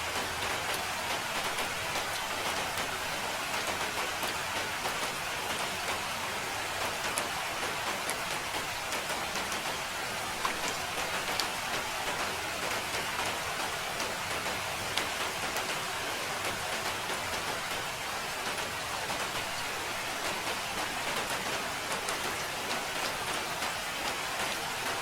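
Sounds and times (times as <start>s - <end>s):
raindrops ticking: 0.0s - 25.0s
steady rain falling: 0.0s - 25.0s.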